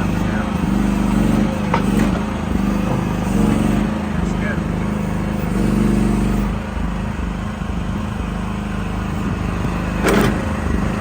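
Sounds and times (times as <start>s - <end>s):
hydraulics moving: 0.0s - 7.6s, 9.1s - 11.0s
excavator engine under load: 0.0s - 11.0s.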